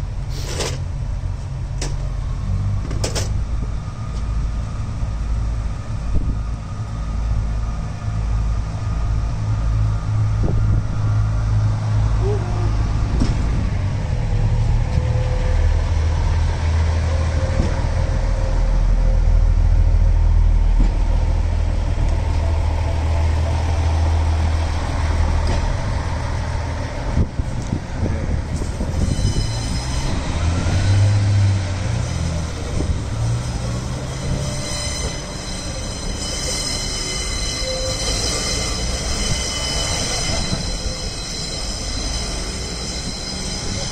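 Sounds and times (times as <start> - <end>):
diesel train engine drone: 0.0 - 43.9.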